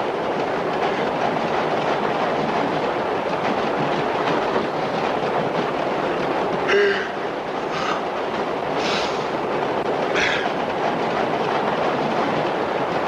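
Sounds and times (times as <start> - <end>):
rail joint clicks: 0.0 - 13.0
train wheels rumbling on rails: 0.0 - 13.0.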